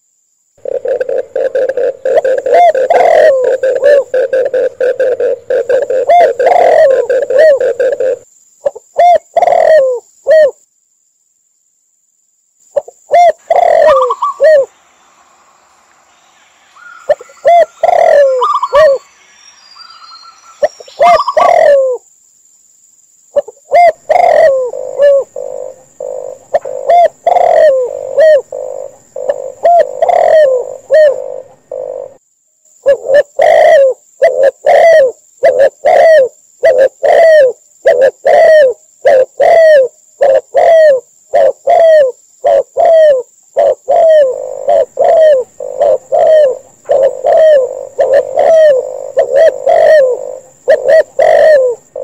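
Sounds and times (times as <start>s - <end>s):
doves cooing: 0.6s - 10.6s, 12.8s - 14.8s, 16.8s - 19.1s, 20.6s - 22.0s, 23.4s - 32.2s, 32.8s - 52.0s.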